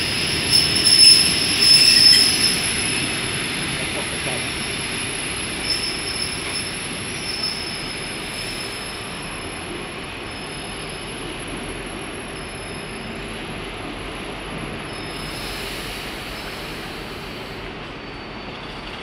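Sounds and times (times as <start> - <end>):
train brake squeal: 0.0 - 3.4, 4.3 - 13.6, 14.5 - 19.0
train hum and rumble: 0.0 - 19.0.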